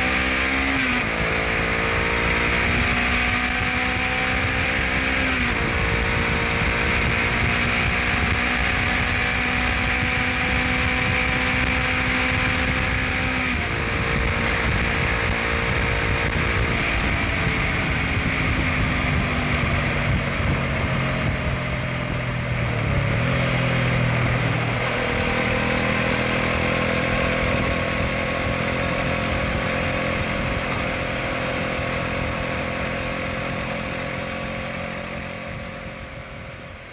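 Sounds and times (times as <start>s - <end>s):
motorcycle engine running: 0.0s - 36.9s
road and wind rush: 0.0s - 36.9s.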